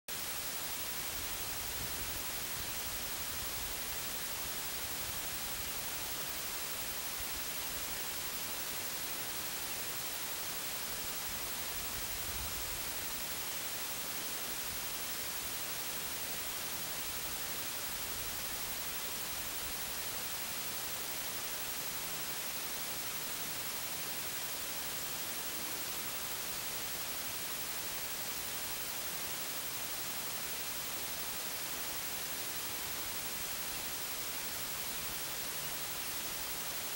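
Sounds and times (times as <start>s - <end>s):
static hiss: 0.1s - 36.9s.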